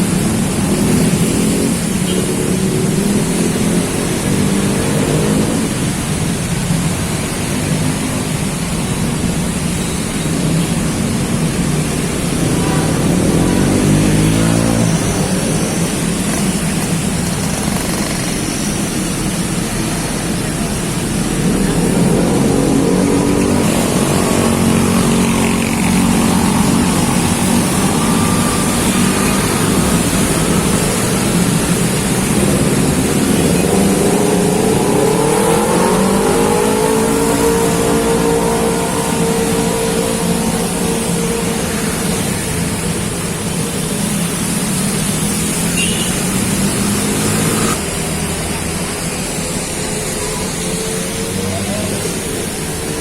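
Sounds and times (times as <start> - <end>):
heavy rain falling: 0.0 - 53.0
vehicles driving on wet road: 0.0 - 53.0.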